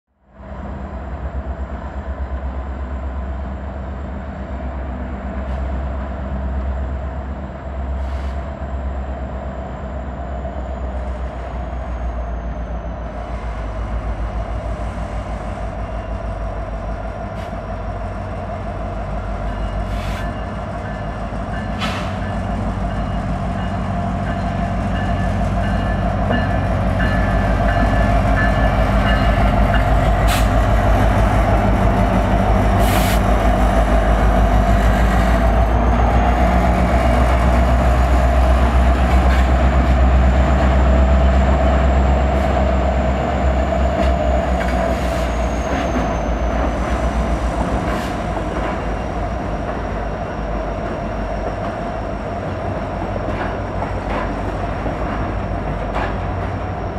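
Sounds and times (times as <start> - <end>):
diesel locomotive engine rumbling: 0.2 - 56.9.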